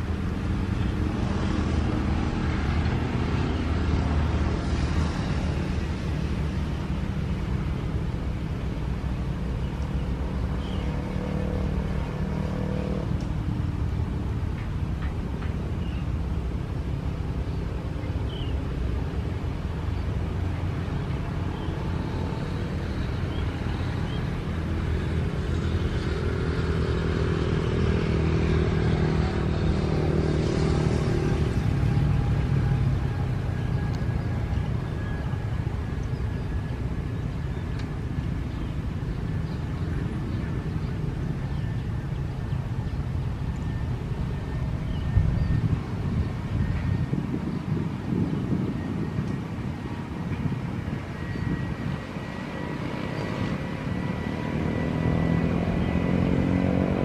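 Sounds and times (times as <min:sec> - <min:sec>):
car passing: 0:00.0 - 0:57.0
motorcycles passing: 0:00.0 - 0:57.0.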